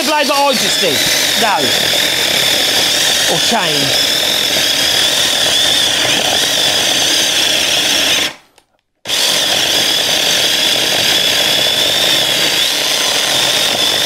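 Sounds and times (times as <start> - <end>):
electric chainsaw cutting log: 0.0 - 14.0.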